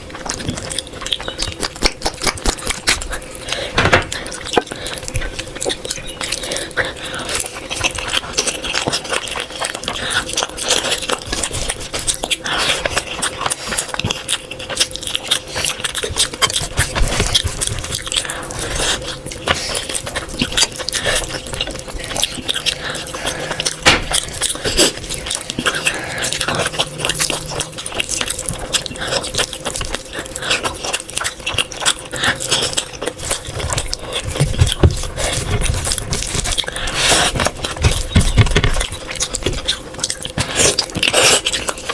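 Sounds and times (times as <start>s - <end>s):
chewing: 0.0s - 41.9s
faint steady hum: 0.0s - 41.9s.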